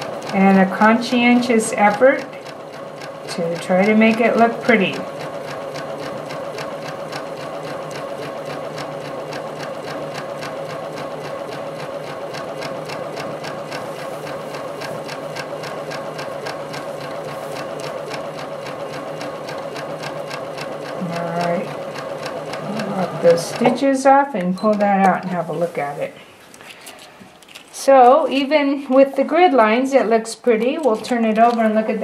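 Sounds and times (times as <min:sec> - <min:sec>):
sewing machine stitching: 0:00.0 - 0:26.1.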